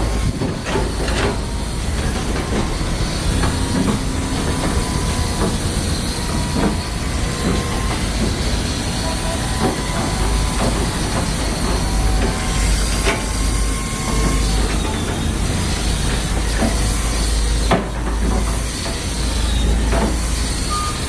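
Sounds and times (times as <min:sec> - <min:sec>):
low engine rumble: 0:00.0 - 0:21.0
clanks and clicks: 0:00.3 - 0:20.3.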